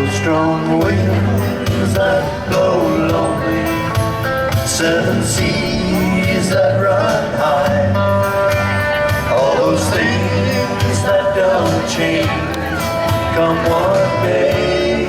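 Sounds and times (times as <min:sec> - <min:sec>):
band playing country-folk song: 0:00.0 - 0:15.0
person singing: 0:00.0 - 0:15.0
plodding bass line: 0:00.0 - 0:15.0.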